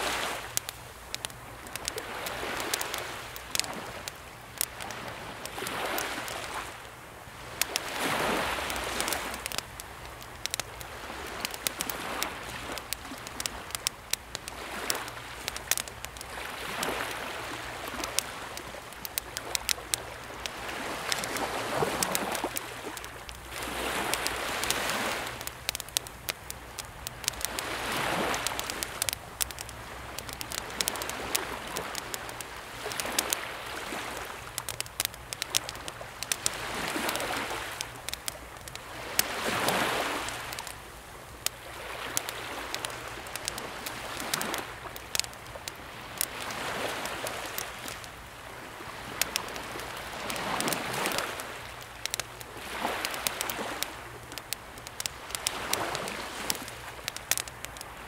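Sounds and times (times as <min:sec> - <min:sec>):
campfire crackling and popping: 0:00.0 - 0:58.0
sea waves washing: 0:00.0 - 0:58.0.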